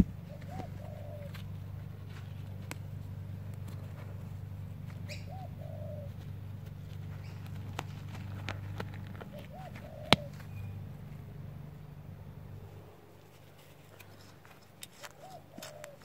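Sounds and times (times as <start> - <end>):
dove cooing: 0.0 - 16.0
steady low hum: 0.0 - 16.0.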